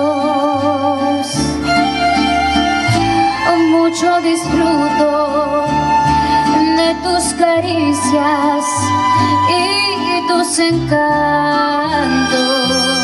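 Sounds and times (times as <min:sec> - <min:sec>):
woman singing: 0:00.0 - 0:01.8, 0:03.2 - 0:13.0
bass line: 0:00.0 - 0:13.0
mariachi band playing: 0:00.0 - 0:13.0
strummed guitars: 0:00.0 - 0:13.0
violin lines: 0:00.0 - 0:13.0.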